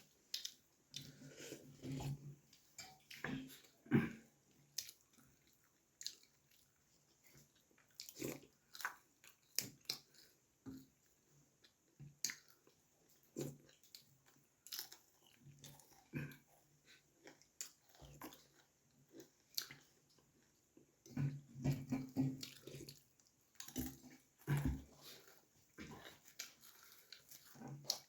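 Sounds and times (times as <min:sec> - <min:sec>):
person chewing with mouth smacks: 0:00.0 - 0:28.0.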